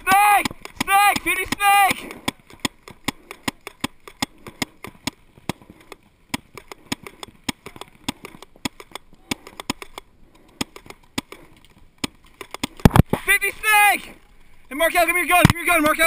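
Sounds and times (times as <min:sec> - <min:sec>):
paintball markers popping: 0:00.1 - 0:13.2.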